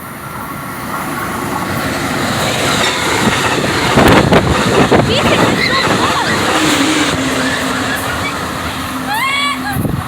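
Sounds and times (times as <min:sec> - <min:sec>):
passenger train passing: 0:00.0 - 0:10.0.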